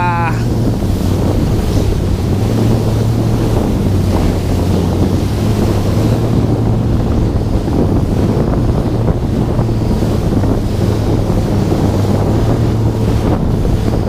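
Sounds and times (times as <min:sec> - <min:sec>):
jet ski engine running: 0:00.0 - 0:14.0
water rushing: 0:00.0 - 0:14.0
wind on microphone: 0:00.0 - 0:14.0.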